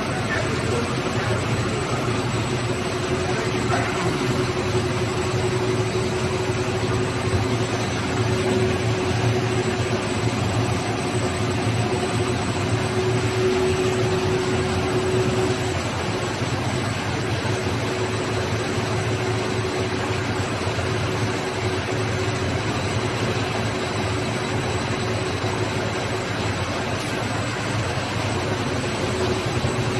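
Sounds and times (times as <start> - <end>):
machine humming with constant tone: 0.0 - 29.9.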